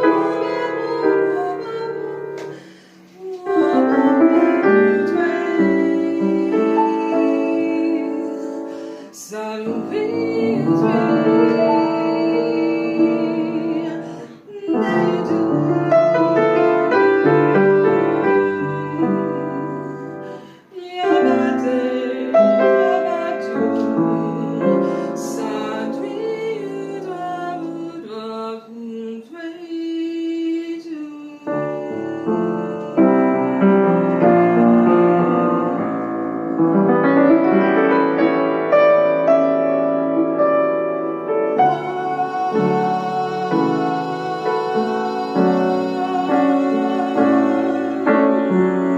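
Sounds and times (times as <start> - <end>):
slow lyrical piano music: 0.0 - 28.1, 31.4 - 48.9.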